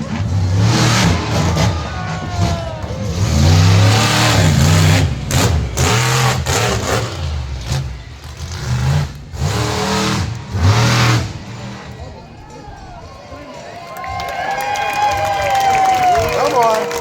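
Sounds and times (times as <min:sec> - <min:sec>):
monster truck engine revving: 0:00.0 - 0:14.2.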